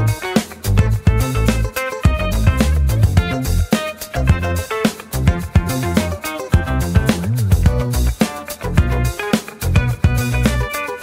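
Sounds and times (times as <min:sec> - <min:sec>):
upbeat music with drums: 0:00.0 - 0:11.0.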